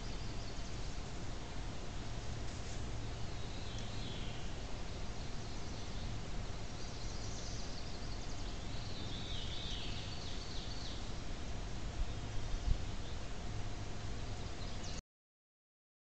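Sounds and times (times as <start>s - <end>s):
microphone hiss and hum: 0.0s - 15.0s
small birds chirping: 0.0s - 15.0s.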